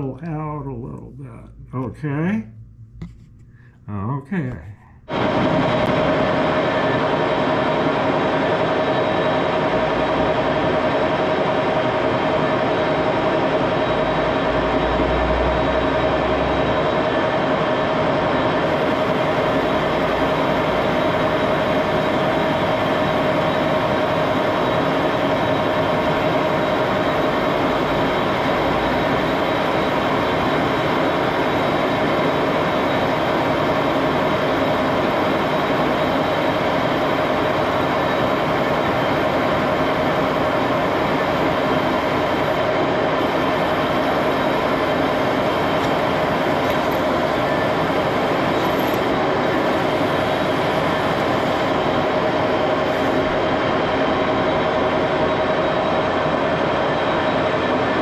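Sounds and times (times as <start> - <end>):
lathe whirring with whining tone: 5.1 - 58.0.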